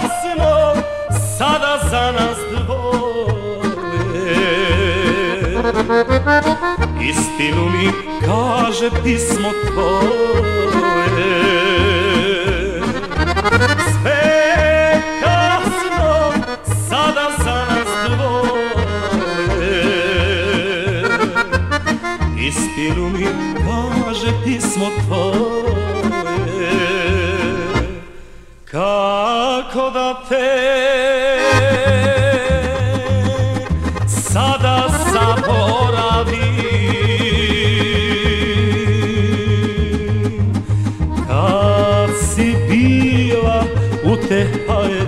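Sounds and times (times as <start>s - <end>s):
accordion folk music: 0.0s - 28.6s, 31.2s - 45.0s.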